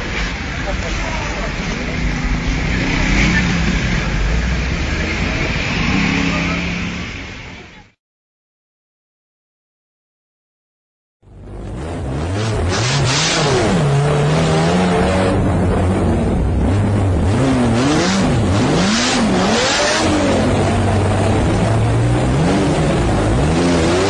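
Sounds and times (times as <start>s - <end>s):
car engine revving: 0.0s - 7.8s, 11.2s - 24.0s
tyre and road noise: 0.0s - 8.0s, 11.2s - 24.0s.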